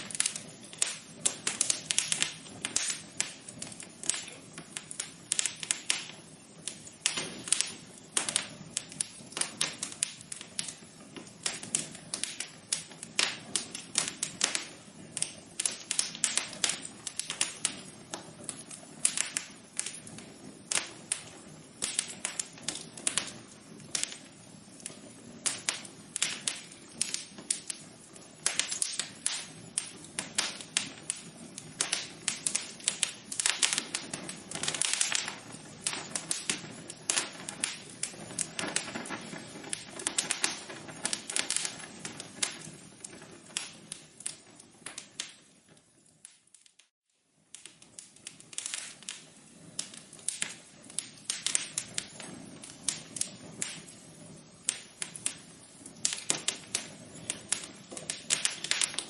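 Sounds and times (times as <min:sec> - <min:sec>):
soft hiss of fire: 0:00.0 - 0:59.0
wood fire crackling: 0:00.0 - 0:59.0.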